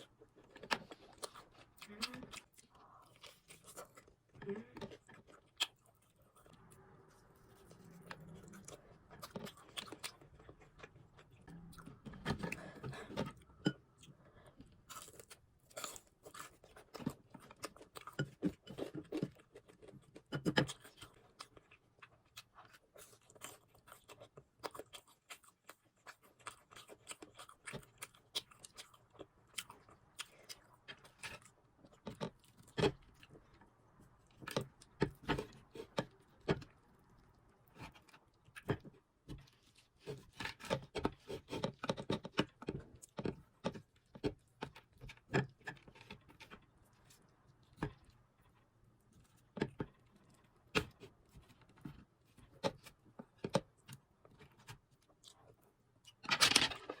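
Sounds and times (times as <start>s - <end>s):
chewing crispy food: 0.0s - 56.2s.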